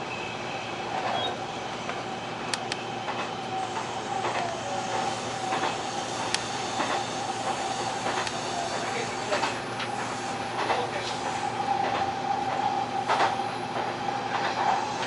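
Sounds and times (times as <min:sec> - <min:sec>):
train running rumble and hum: 0:00.0 - 0:15.0.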